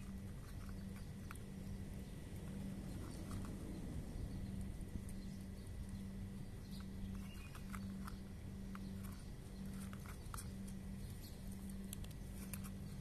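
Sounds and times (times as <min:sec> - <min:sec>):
cat chewing dry kibble: 0:00.0 - 0:13.0
steady low hum: 0:00.0 - 0:13.0.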